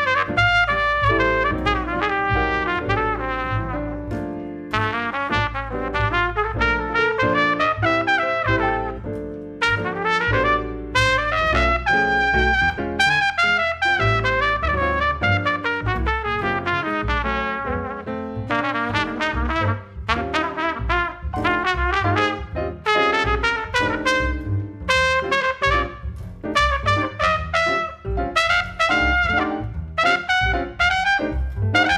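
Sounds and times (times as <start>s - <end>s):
jazz trumpet solo: 0.0s - 31.9s
piano: 0.0s - 31.9s
plucked double bass: 0.0s - 31.9s.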